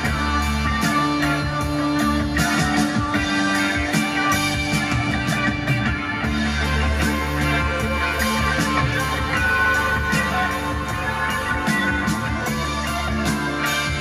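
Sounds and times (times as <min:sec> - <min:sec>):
guitar music through speakers: 0:00.0 - 0:14.0.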